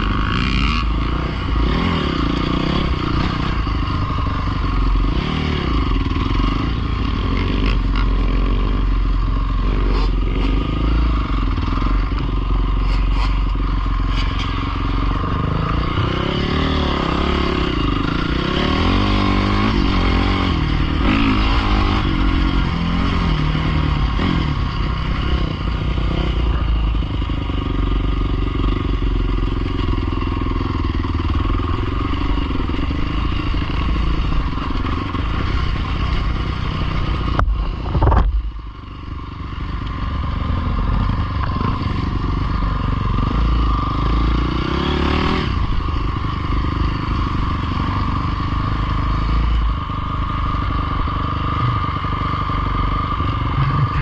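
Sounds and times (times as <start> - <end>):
small motorbike engine revving: 0.0 - 38.4, 40.2 - 54.0.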